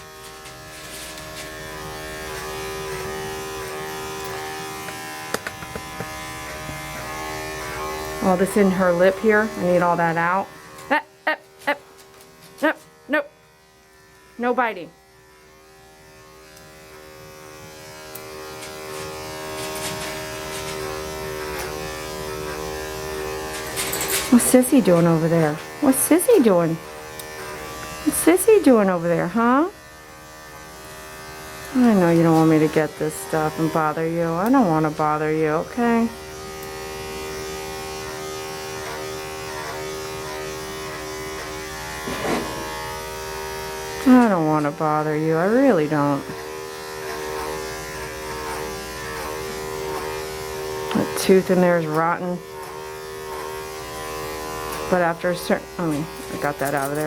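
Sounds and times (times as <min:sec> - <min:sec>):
electric clippers buzzing: 0:00.0 - 0:57.0.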